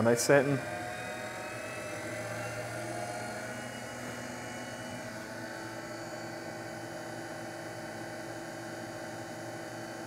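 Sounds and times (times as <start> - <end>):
wood lathe motor humming: 0.0 - 9.0.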